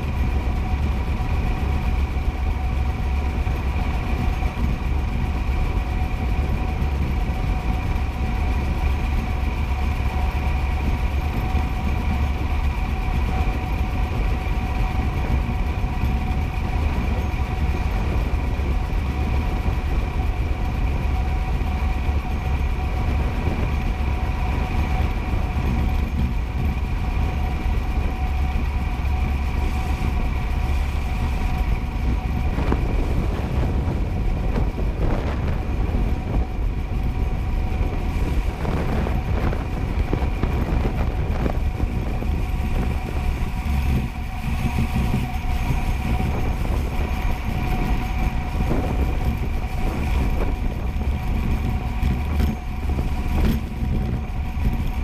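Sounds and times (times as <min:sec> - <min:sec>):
high whine: 0:00.0 - 0:55.0
tyres rumbling on asphalt: 0:00.0 - 0:55.0
wind rush on microphone: 0:00.0 - 0:55.0.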